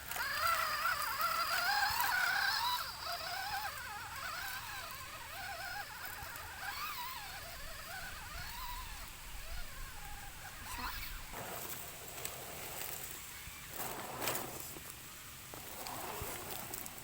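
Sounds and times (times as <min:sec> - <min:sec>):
toy truck electric motor whining: 0:00.0 - 0:17.0.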